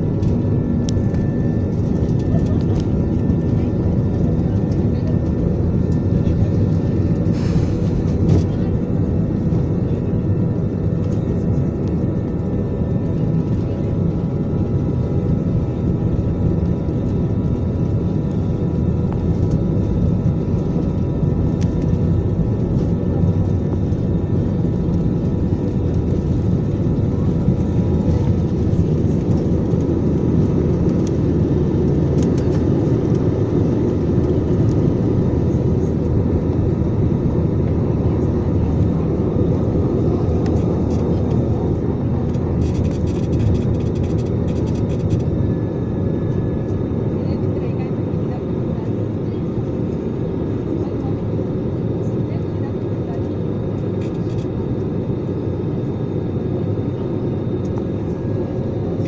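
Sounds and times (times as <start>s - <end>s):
jet engines roaring in cabin: 0.0s - 59.0s.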